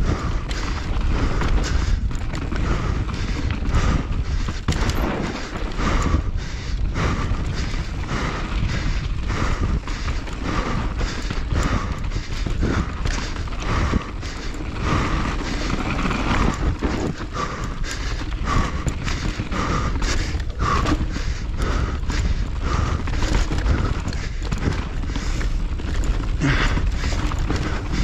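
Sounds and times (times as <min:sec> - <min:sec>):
bike knocking and rattling: 0:00.0 - 0:28.0
wind and tyres rumbling: 0:00.0 - 0:28.0.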